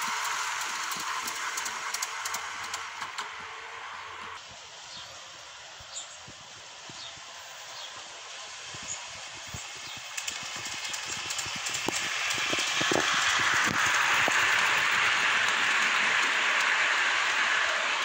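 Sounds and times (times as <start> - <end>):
train track clicks: 0.0 - 4.4, 6.7 - 18.0
model train rushing hiss: 0.0 - 18.0.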